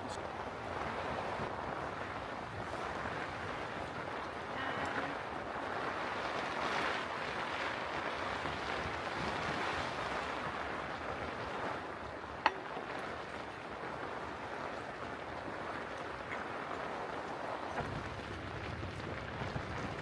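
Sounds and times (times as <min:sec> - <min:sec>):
strong wind against tent: 0:00.0 - 0:20.0.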